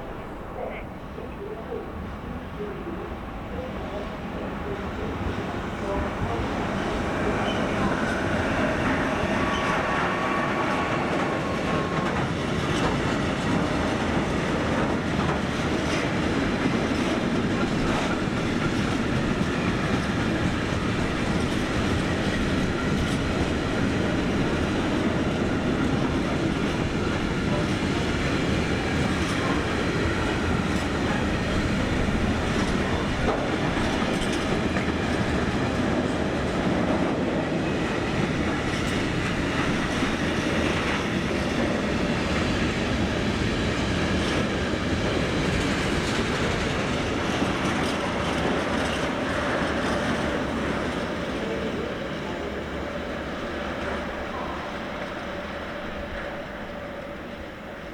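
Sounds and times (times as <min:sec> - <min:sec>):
train wheels clattering over rails: 0:05.1 - 0:56.8.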